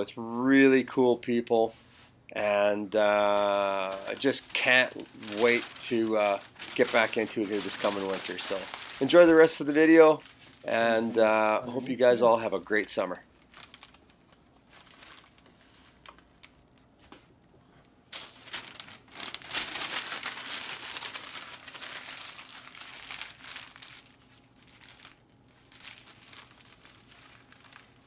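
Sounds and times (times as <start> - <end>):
wrapper crinkling: 3.1 - 16.9, 18.1 - 28.0.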